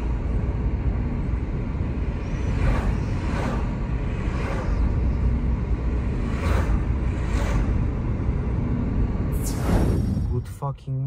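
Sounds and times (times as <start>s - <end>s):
car engine and road rumble: 0.0s - 11.0s
passing cars whooshing: 1.4s - 10.4s.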